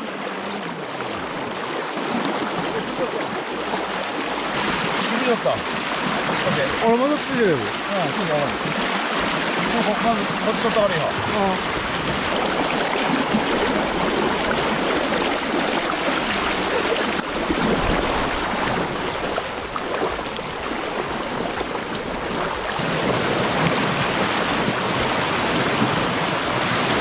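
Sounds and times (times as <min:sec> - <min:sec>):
river current rushing: 0:00.0 - 0:27.0.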